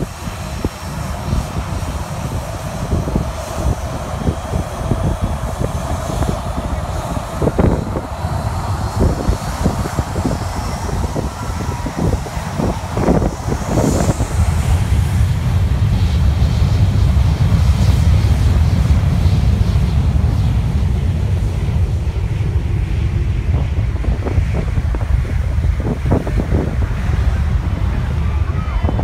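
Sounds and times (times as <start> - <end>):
jet engine blast rumble: 0.0 - 29.0.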